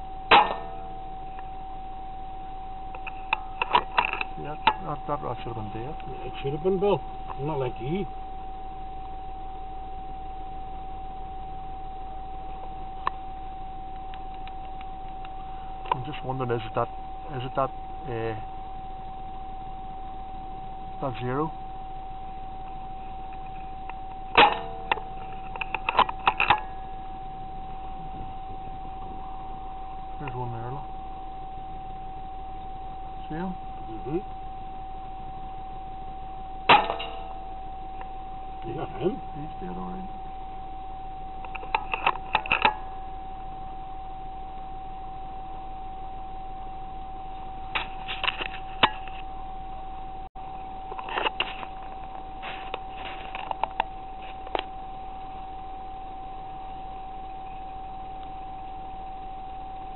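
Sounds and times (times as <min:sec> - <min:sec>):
steady high whine: 0:00.0 - 0:59.9.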